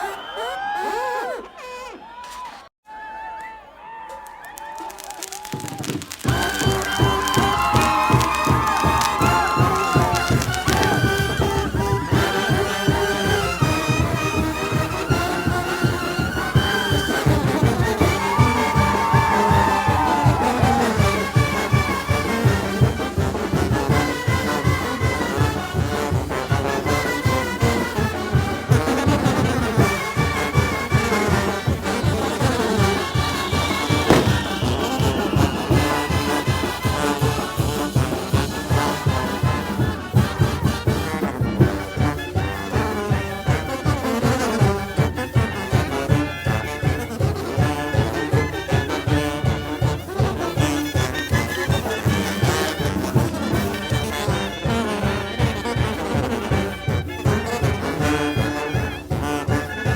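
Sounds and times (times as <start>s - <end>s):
driving drum beat: 5.5s - 59.9s
trumpets and trombones: 5.7s - 59.9s.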